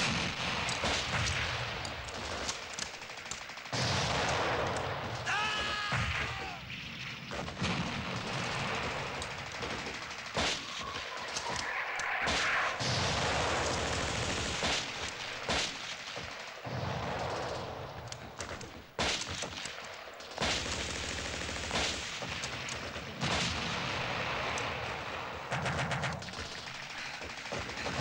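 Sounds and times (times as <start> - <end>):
rapid machine-gun fire: 0.0 - 28.0.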